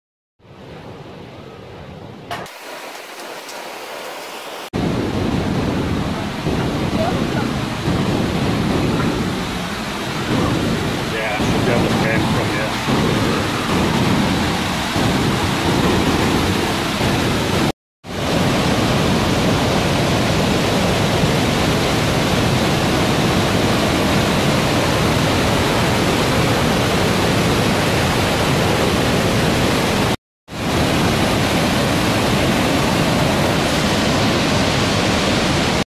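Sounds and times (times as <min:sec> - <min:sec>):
waterfall rushing: 0:02.3 - 0:35.8.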